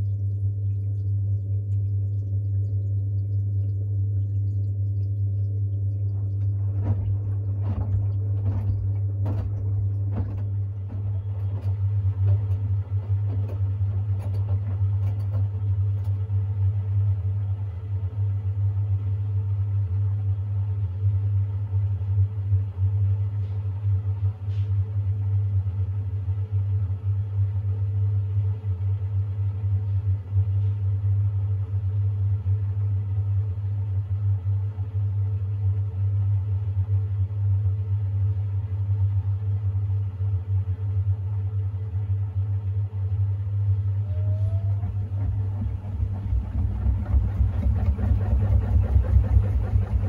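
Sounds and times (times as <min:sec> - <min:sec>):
washing machine spinning: 0:00.0 - 0:50.0.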